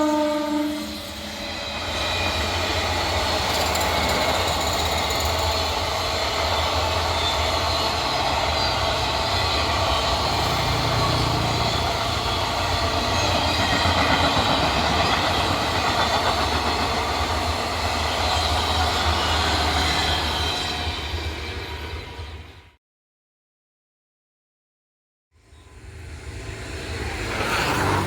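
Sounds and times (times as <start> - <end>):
low train rumble: 0.0 - 22.7, 25.5 - 28.0
train wheels grinding and squealing: 0.0 - 22.8, 25.4 - 28.0.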